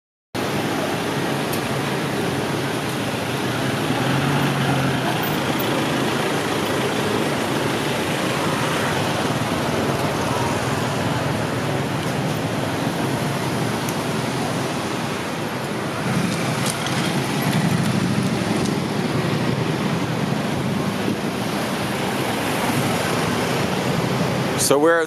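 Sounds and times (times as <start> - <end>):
cars and scooters passing: 0.4 - 25.0
road noise: 0.4 - 25.0.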